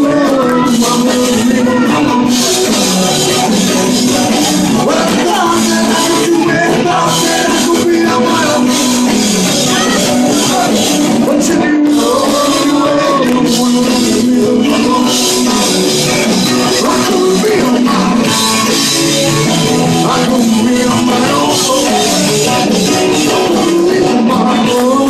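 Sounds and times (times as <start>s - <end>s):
acoustic guitar: 0.0s - 25.0s
person singing: 0.0s - 25.0s
rock and roll band playing: 0.0s - 25.0s.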